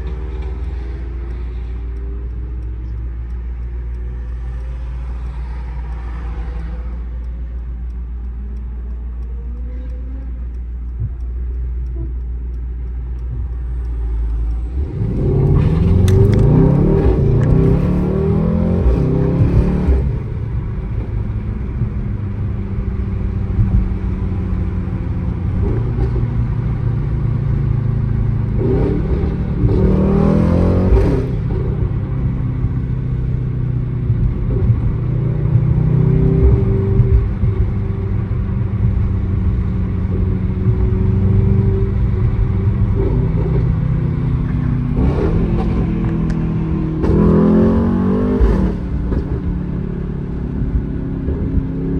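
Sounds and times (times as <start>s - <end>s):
car engine cruising: 0.0s - 51.9s.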